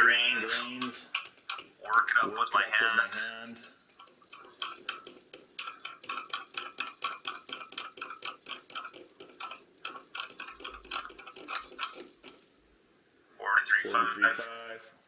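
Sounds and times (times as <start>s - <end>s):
light clicking and tapping: 0.4s - 12.5s.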